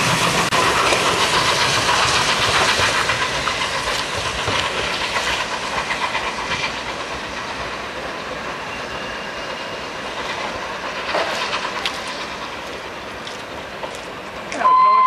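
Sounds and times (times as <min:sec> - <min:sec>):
train wheels clattering over rail joints: 0:00.0 - 0:14.6
steam locomotive hiss and exhaust: 0:00.0 - 0:15.0.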